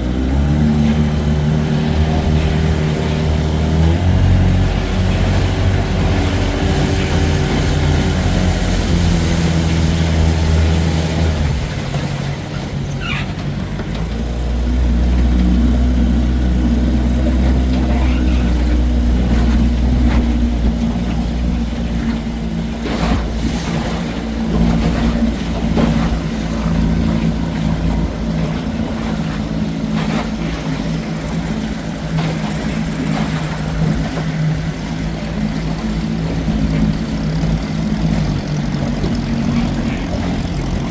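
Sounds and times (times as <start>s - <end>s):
outboard motor drone: 0.0s - 40.9s.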